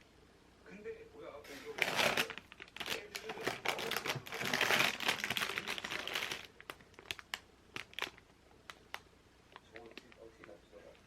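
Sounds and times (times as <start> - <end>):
packaging crinkling and rustling: 1.5 - 10.6.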